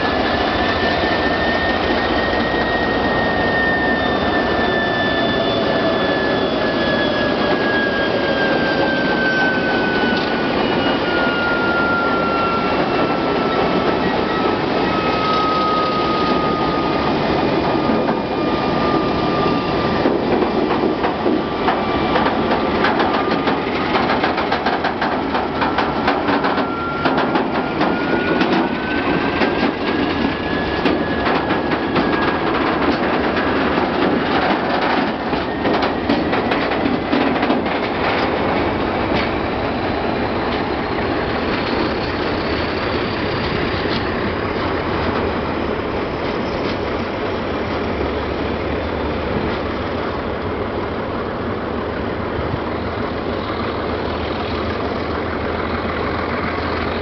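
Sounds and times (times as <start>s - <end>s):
diesel locomotive engine whine: 0.0s - 57.0s
train wheels clattering on track: 0.0s - 57.0s.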